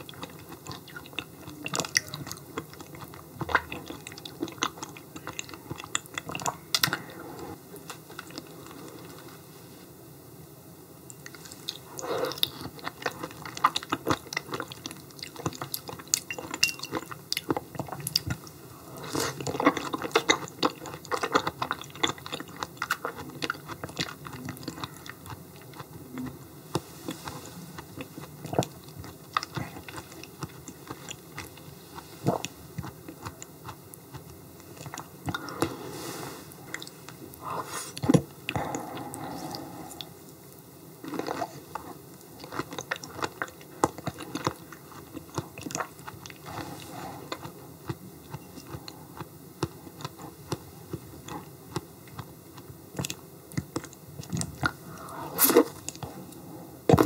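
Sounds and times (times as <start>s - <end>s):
person chewing wetly: 0.0s - 9.3s, 11.1s - 35.9s, 36.5s - 57.0s.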